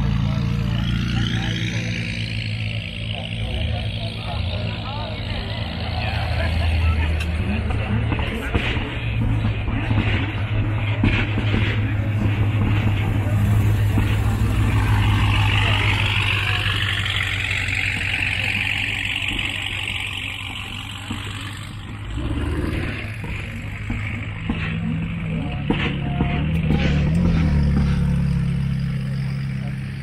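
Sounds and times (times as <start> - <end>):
vehicle engine hum: 0.0 - 30.0.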